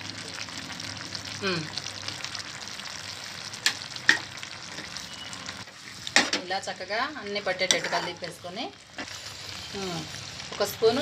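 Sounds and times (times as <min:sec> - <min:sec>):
curry sizzling and bubbling: 0:00.0 - 0:11.0.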